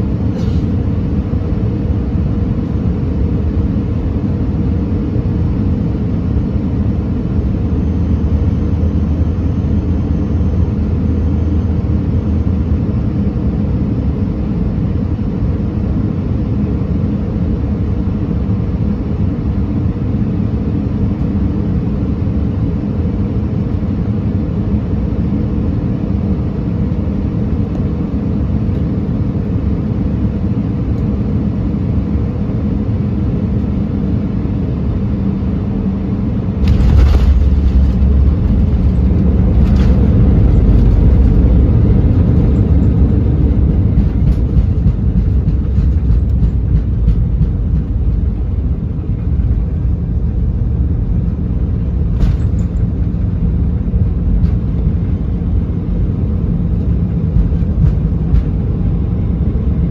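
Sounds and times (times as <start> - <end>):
aircraft cabin engine rumble: 0.0 - 59.9
low hum: 0.0 - 59.9.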